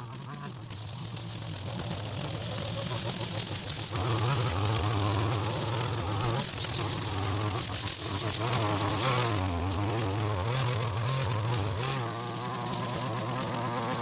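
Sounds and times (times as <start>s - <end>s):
strimmer cutting grass: 0.0s - 14.0s.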